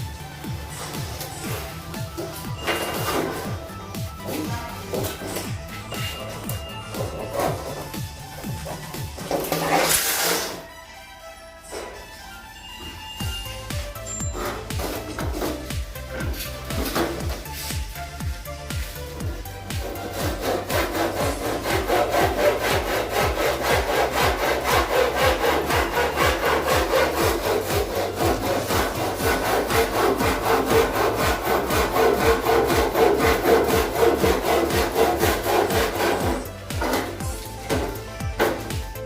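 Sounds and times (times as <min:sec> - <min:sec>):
saw cutting through wood: 0:00.4 - 0:10.7, 0:13.2 - 0:38.8.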